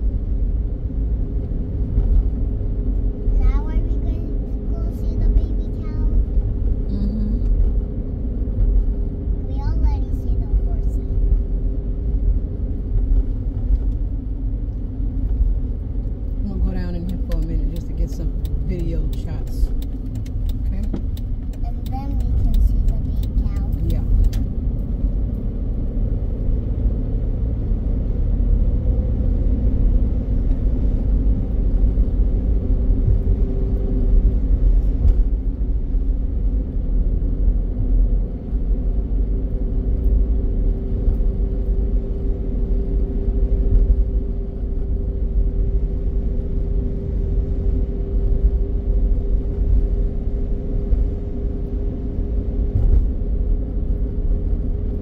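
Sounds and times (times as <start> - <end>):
faint hum rising in pitch: 0.0 - 55.0
tyres rumbling on concrete road: 0.0 - 55.0.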